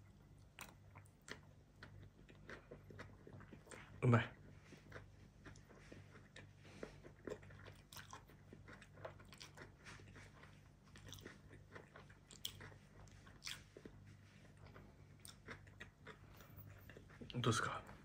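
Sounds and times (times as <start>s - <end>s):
low steady hum: 0.0s - 18.0s
person chewing and slurping noodles: 0.1s - 17.4s.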